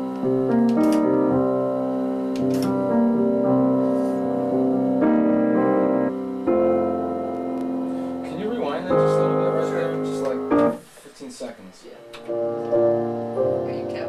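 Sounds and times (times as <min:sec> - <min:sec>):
solo piano music: 0:00.0 - 0:10.9, 0:12.1 - 0:14.0.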